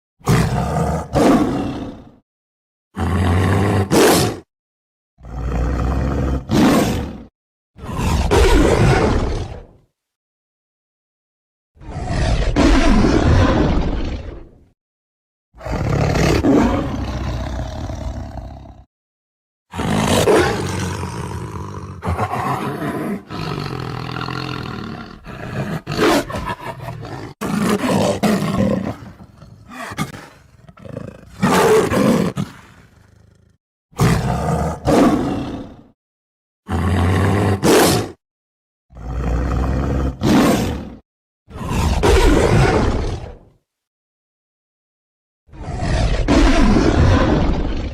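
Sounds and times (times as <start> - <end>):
tiger roaring: 0.2 - 2.2, 3.0 - 4.5, 5.2 - 9.8, 11.8 - 14.6, 15.6 - 18.9, 19.7 - 36.0, 36.7 - 38.2, 38.9 - 43.4, 45.5 - 47.9.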